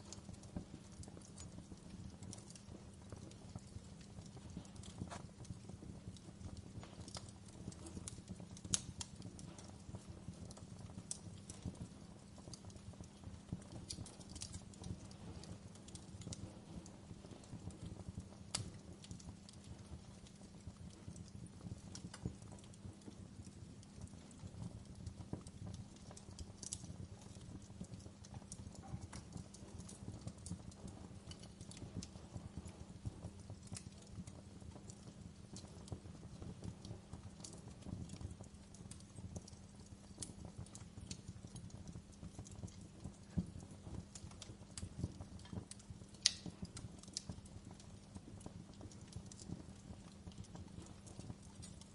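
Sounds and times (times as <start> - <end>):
low rumble of flames: 0.0 - 51.9
wood fire crackling and popping: 0.0 - 51.9.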